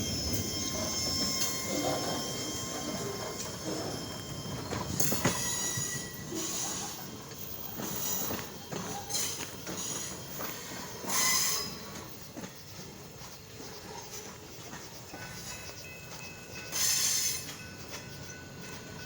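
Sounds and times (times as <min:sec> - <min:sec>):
freight train rumble: 0:00.0 - 0:19.0
train wheels squealing on rails: 0:00.0 - 0:19.0.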